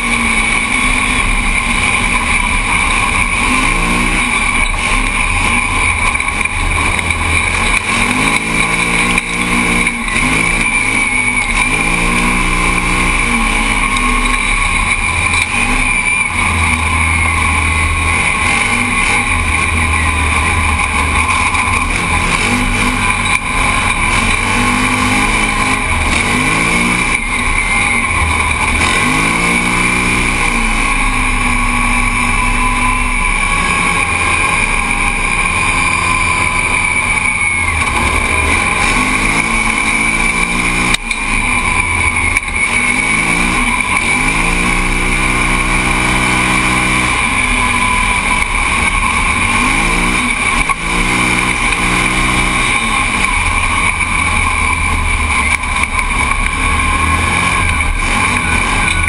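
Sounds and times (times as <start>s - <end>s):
engine revving: 0.0s - 59.0s
rushing noise: 0.0s - 59.0s
steady high whine: 0.0s - 59.0s.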